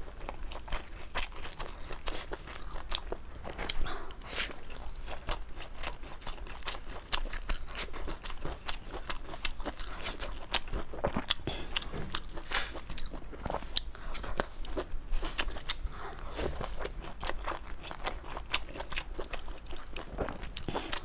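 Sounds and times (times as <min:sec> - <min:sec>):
chewing soft food: 0:00.0 - 0:21.0.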